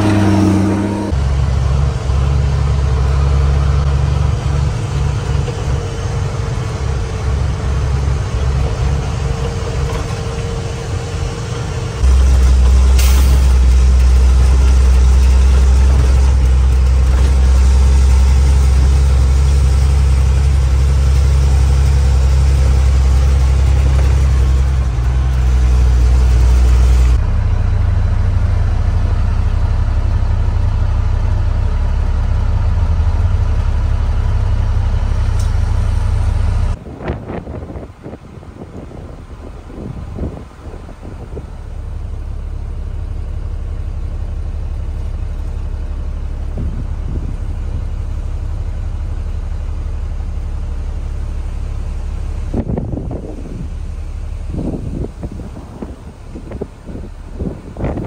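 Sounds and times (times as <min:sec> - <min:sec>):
truck engine droning: 0:00.0 - 0:58.0.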